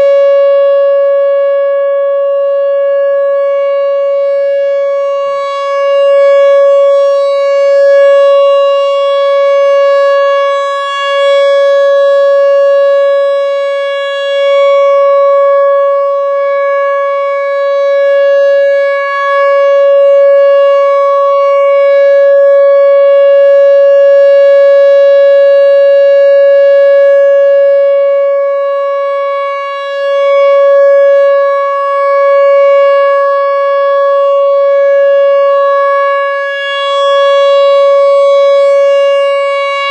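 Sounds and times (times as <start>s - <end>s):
warning siren steady alert tone: 0.0s - 39.9s.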